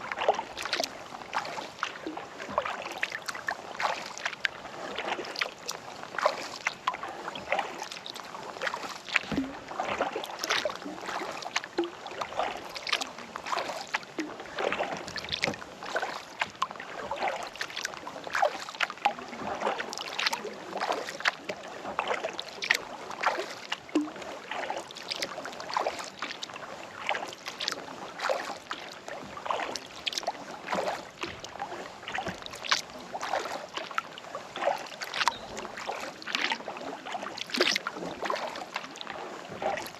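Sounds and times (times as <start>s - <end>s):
kayak paddle strokes in water: 0.0s - 39.9s
water dripping off paddle: 0.1s - 39.9s.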